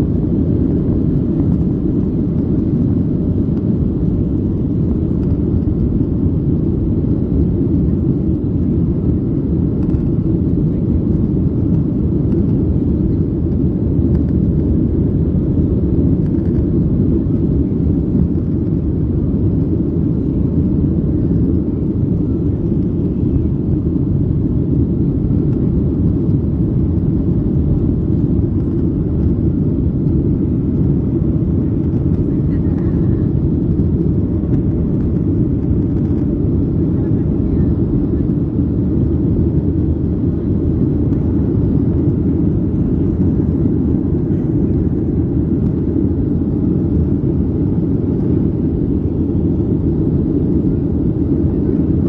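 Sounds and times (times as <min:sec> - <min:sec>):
jet engines roaring on take-off: 0:00.0 - 0:52.0.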